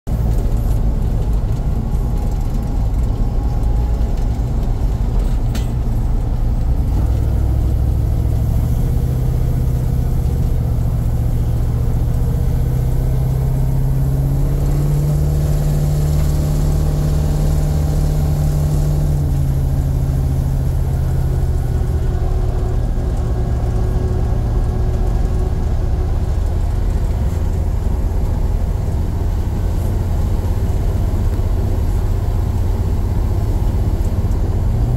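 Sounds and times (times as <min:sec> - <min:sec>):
car engine driving: 0:00.1 - 0:34.9
road rumble: 0:00.1 - 0:34.9.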